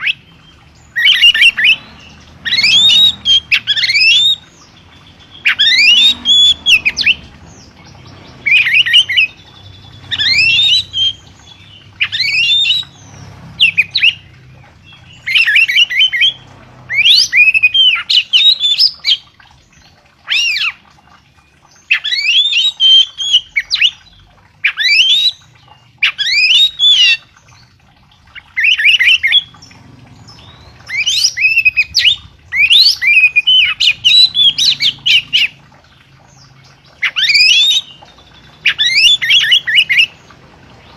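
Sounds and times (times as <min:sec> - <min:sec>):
songbird singing whistled notes: 0:00.0 - 0:27.7, 0:28.3 - 0:35.6, 0:36.2 - 0:40.9.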